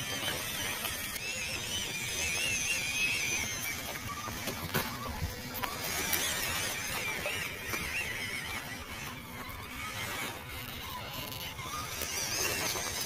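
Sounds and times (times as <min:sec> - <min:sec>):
small electric motor whining: 0:00.0 - 0:13.0
tyres rustling over dry leaves: 0:00.0 - 0:13.0.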